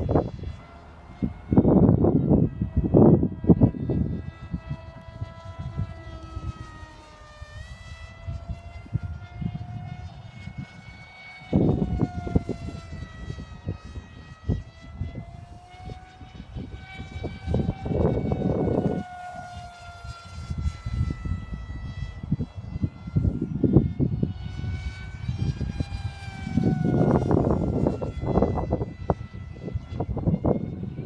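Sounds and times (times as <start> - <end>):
model jet engine whine: 0.0 - 31.0
wind buffeting microphone: 0.0 - 31.0.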